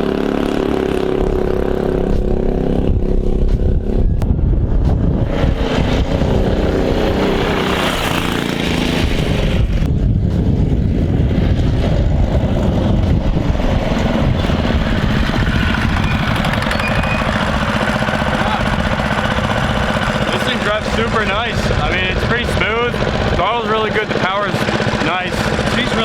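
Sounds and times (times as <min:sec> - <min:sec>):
small engine revving: 0:00.0 - 0:04.2, 0:05.2 - 0:09.9, 0:11.7 - 0:26.0.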